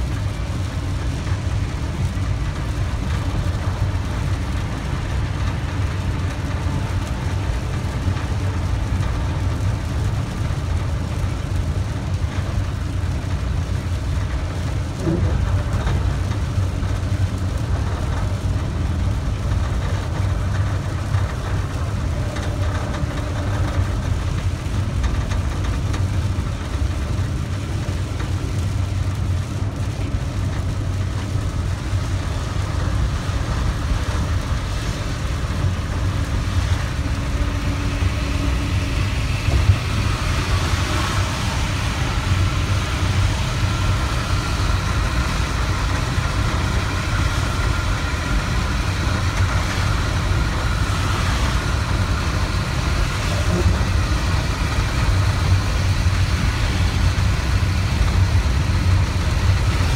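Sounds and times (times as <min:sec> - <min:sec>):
vehicle engine and tyres rumbling: 0:00.0 - 0:59.9.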